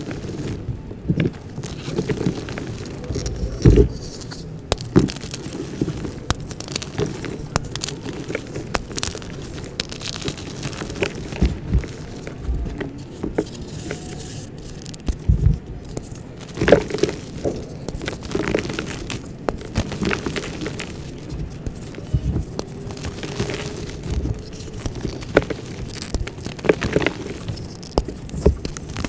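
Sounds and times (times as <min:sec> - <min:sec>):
hands crumbling powder clumps: 0:00.0 - 0:29.0
heavy thumps: 0:00.0 - 0:29.0
soft crunching and crackles: 0:00.0 - 0:29.0.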